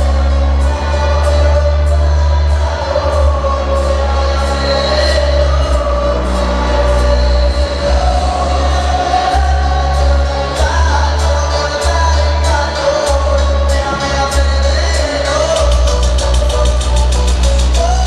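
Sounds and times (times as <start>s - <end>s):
heavy bass: 0.0s - 18.0s
loud music with singing: 0.0s - 18.0s.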